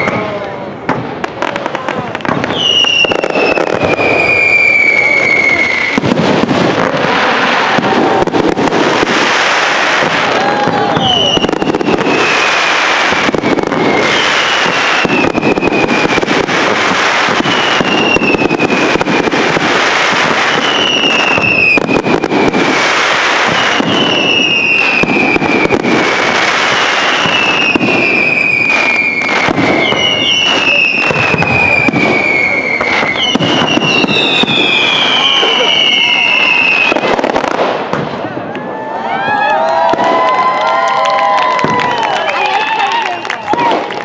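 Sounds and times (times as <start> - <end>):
firework bursts and crackle: 0.0 - 44.0
falling firework whistles: 2.2 - 38.2, 39.9 - 44.0.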